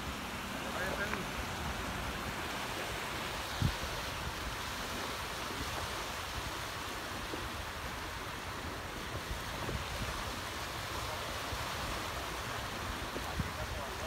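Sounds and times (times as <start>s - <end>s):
small waves washing ashore: 0.0s - 14.0s
wind rumbling on microphone: 0.0s - 14.0s.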